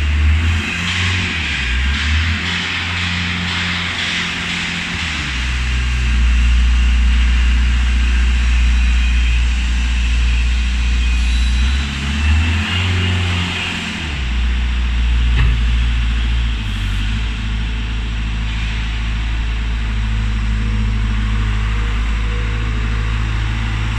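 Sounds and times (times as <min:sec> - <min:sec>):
skid steer loader engine drone: 0:00.0 - 0:23.9.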